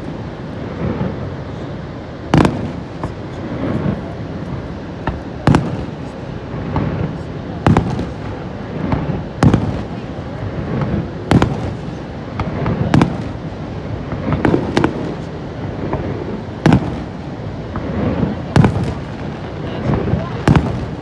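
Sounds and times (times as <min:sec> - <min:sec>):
fireworks bursting with echoing bangs: 0:00.0 - 0:21.0.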